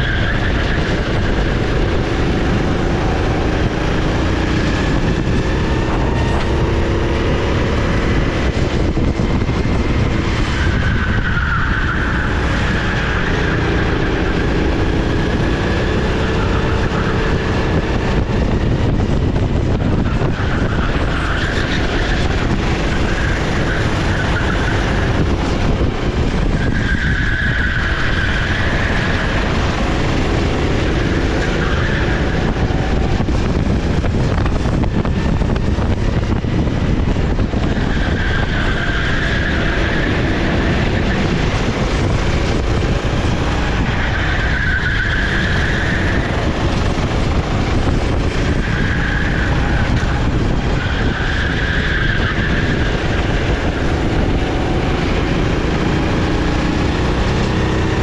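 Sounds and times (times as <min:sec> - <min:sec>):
constant rushing noise: 0:00.0 - 0:58.0
kart engine revving: 0:00.0 - 0:58.0.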